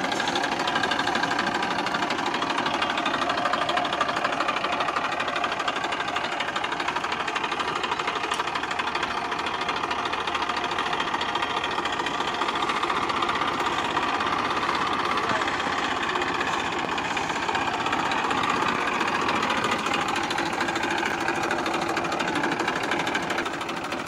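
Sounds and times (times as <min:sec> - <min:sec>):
tractor diesel engine clattering: 0:00.0 - 0:24.0.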